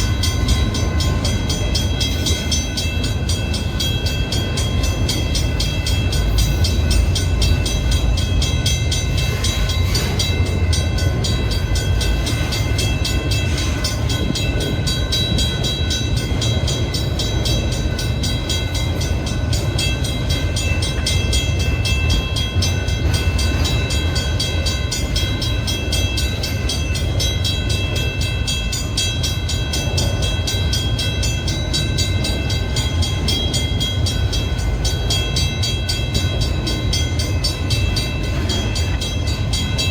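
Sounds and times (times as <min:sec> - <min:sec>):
freight train rumble: 0:00.0 - 0:39.9.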